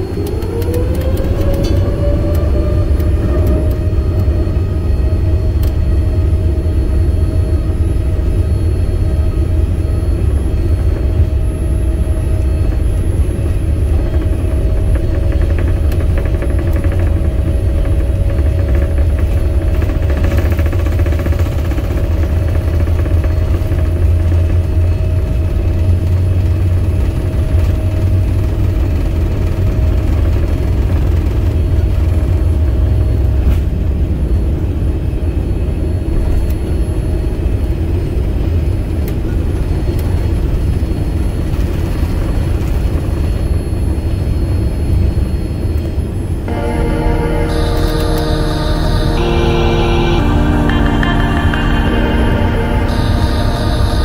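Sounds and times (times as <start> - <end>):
steady whine: 0.0 - 39.2, 43.6 - 54.0
low rumble of jet engines: 0.0 - 54.0.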